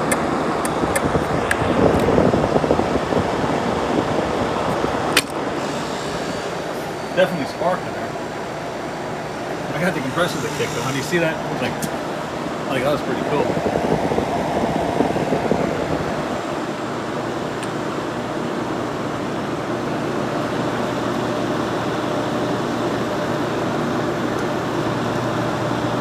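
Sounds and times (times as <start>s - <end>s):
window air conditioner hum: 0.0s - 26.0s.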